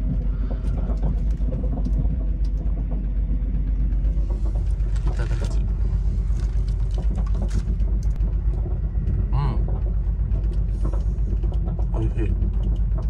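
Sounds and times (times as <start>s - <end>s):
low rumble of train: 0.0s - 13.0s.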